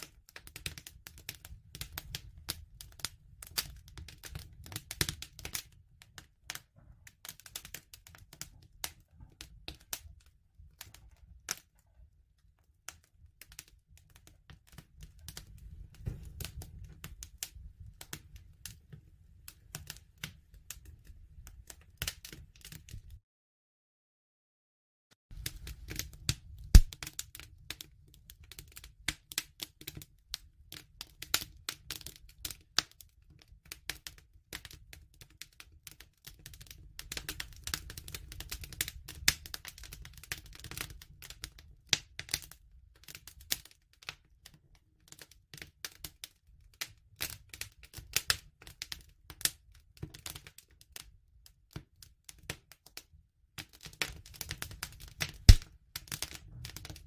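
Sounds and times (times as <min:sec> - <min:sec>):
wood fire crackling: 0:00.0 - 0:23.2, 0:25.3 - 0:51.1, 0:53.6 - 0:57.0.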